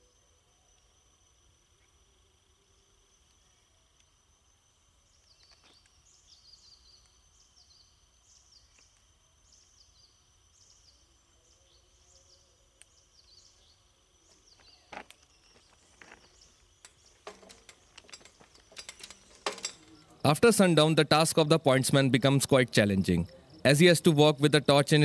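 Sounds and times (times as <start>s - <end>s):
insect drone: 0.0s - 25.0s
bird chirping: 5.0s - 25.0s.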